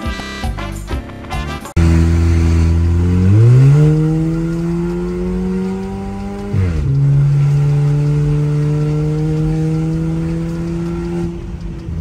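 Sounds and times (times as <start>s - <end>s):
car engine accelerating hard: 1.8s - 12.0s.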